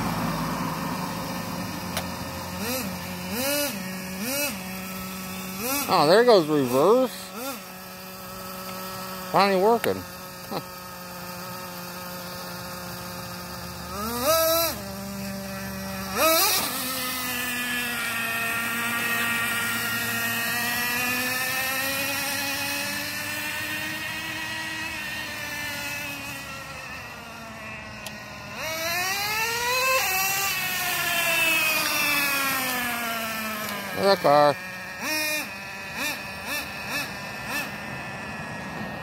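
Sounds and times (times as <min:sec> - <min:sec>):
small nitro engine revving: 0:00.0 - 0:39.0.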